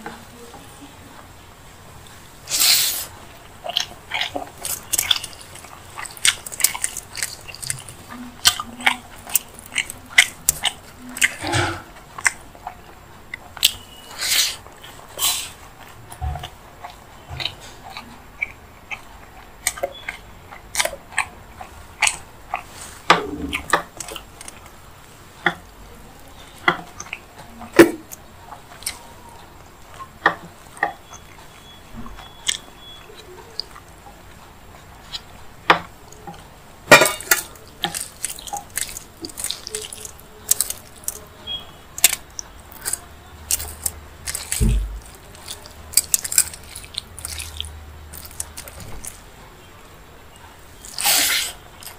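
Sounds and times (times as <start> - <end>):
wet chewing: 2.0 - 51.9
fingers squishing food: 2.4 - 51.9.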